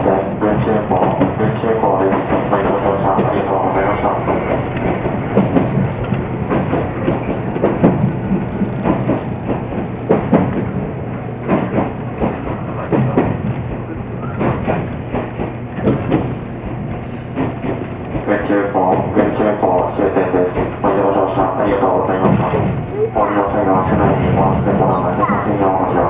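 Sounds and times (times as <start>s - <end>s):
wheels clacking over rail joints: 0.0s - 22.9s
train low rumble: 0.0s - 26.0s.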